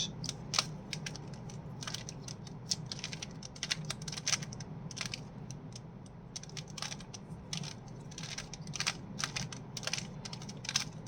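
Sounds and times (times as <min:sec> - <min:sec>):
puzzle cube plastic clicks: 0:00.2 - 0:11.0.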